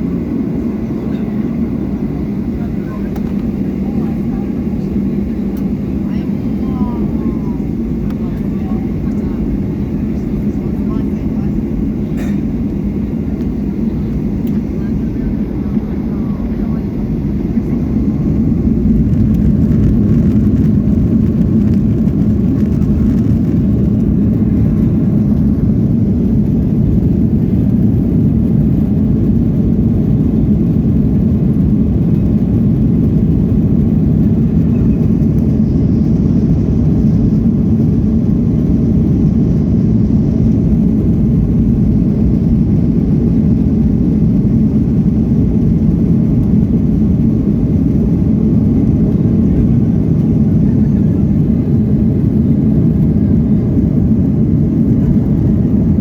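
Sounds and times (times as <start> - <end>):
jet engine noise in cabin: 0.0 - 56.0.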